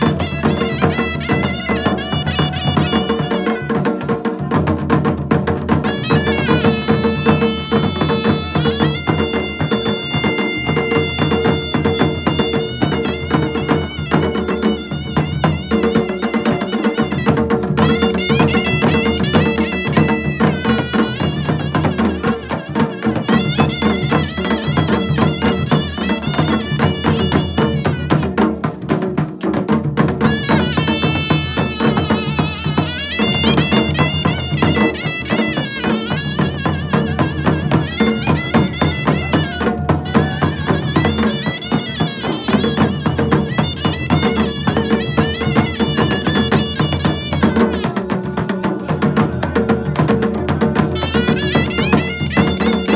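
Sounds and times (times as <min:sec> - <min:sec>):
drum and wood-block percussion: 0:00.0 - 0:52.9.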